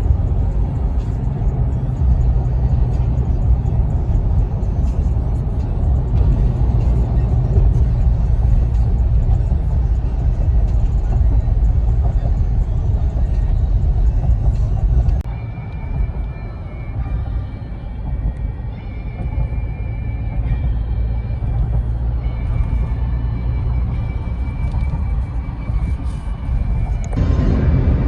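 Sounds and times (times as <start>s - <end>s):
music playing: 0.0s - 28.0s
vehicle driving rumble: 0.0s - 28.0s.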